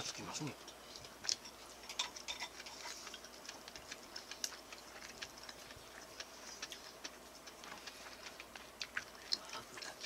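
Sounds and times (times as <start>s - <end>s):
chewing and mouth sounds: 0.0s - 10.0s.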